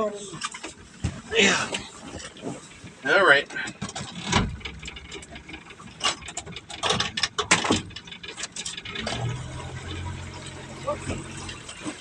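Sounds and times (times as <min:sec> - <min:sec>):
fishing gear clicking and rattling: 0:00.3 - 0:12.0.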